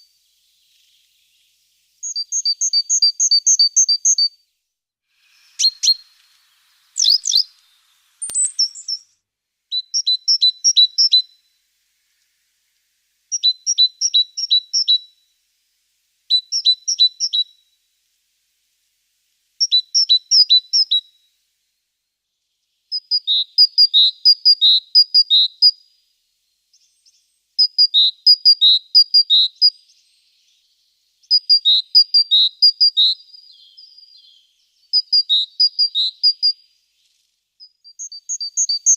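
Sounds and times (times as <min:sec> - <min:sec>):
small bird chirping: 0:00.0 - 0:15.4, 0:16.3 - 0:17.9, 0:18.9 - 0:21.4, 0:22.1 - 0:38.9.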